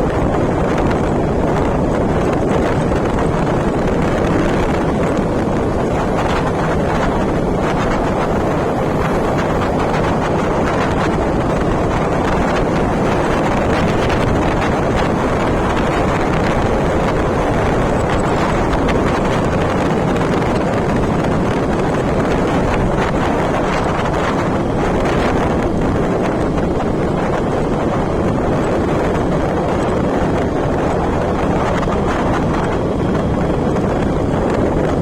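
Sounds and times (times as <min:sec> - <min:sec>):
vehicle ride rumble: 0:00.0 - 0:35.0
wind rushing over microphone: 0:00.0 - 0:35.0.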